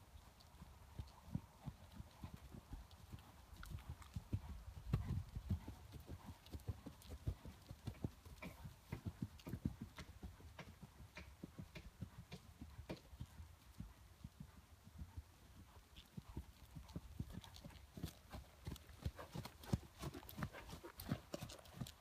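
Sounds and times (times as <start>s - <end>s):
horse hooves trotting on sand: 0.0s - 22.0s.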